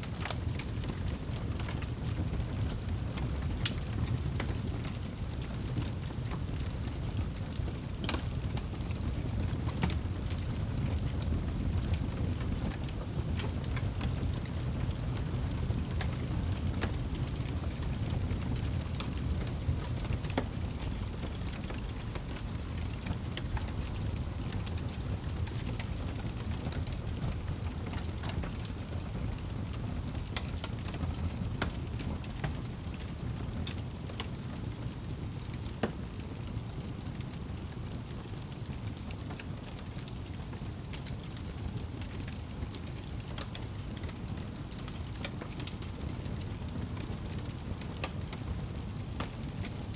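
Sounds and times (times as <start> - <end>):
fire crackling and popping: 0.0 - 49.9
flames rumbling: 0.0 - 49.9.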